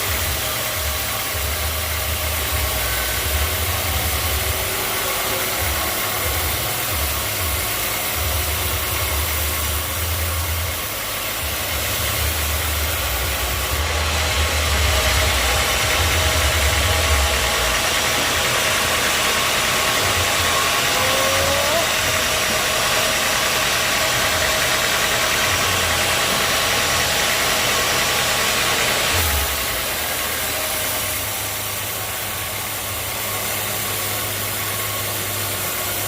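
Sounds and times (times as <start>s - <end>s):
sawmill machinery whine: 0.0s - 36.0s.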